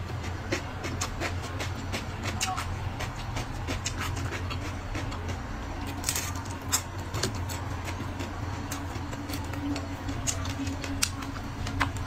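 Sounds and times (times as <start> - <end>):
low steady hum: 0.0 - 12.0
chewing clicks and mouth smacks: 0.2 - 12.0.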